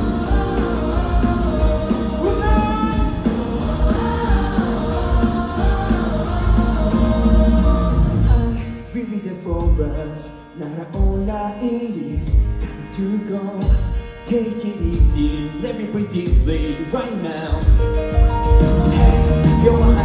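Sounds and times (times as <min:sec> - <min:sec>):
live rock band music: 0:00.0 - 0:20.0.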